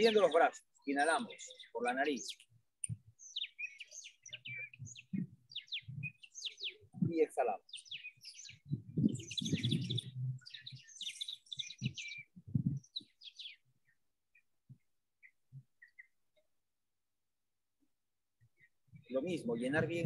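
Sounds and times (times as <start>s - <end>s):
small birds chirping: 0.0s - 16.6s, 18.3s - 20.0s.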